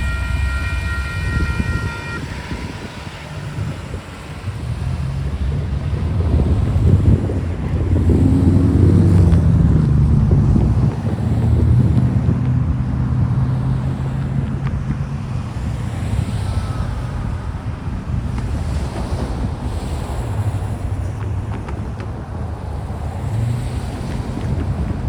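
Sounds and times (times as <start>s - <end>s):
freight train rumbling past: 0.0s - 25.0s
train wheel noise: 0.0s - 25.0s
wind on microphone: 0.0s - 25.0s.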